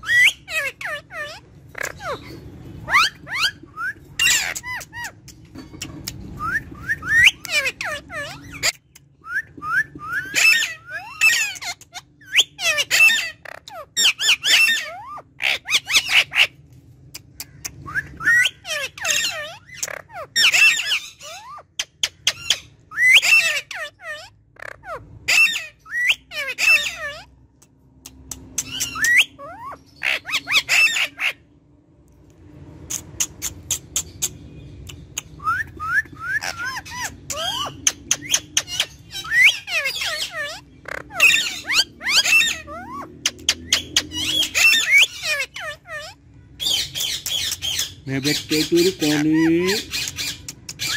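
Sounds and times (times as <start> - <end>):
parakeet chattering: 0.0 - 9.2, 10.1 - 31.5, 32.7 - 50.9.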